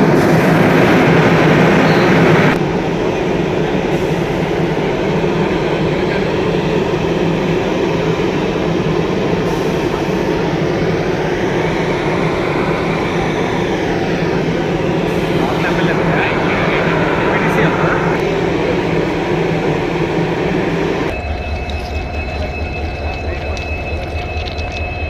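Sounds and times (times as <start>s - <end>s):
train running on rails: 0.0s - 25.0s.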